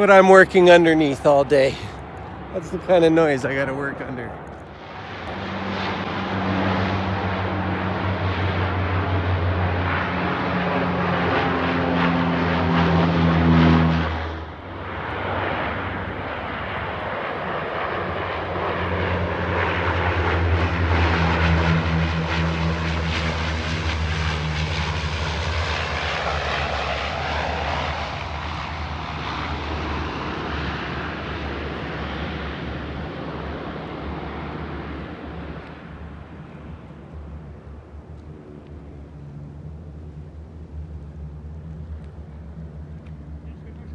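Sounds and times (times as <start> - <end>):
propeller engines running: 0.0 - 43.9.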